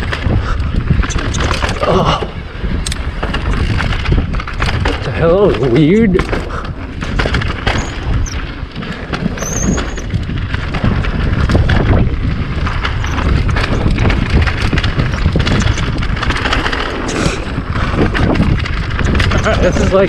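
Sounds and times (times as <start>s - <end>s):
bike rattling over bumps: 0.0s - 20.0s
bike tyres on dirt: 0.0s - 20.0s
wind rumble on microphone: 0.0s - 20.0s.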